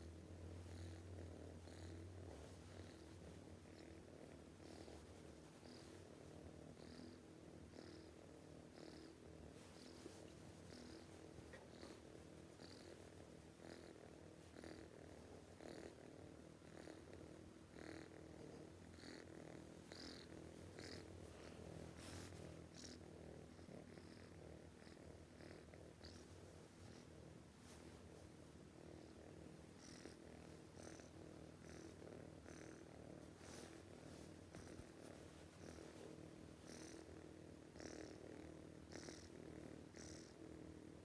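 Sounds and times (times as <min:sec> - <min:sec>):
cat snoring: 0:00.0 - 0:41.0.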